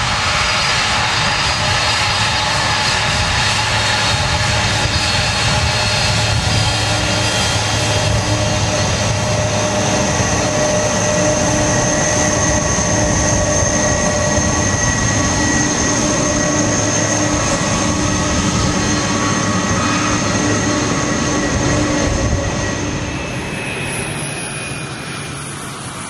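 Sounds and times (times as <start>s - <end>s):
jet engine high whine: 0.0s - 26.0s
jet engines rushing: 0.0s - 26.0s.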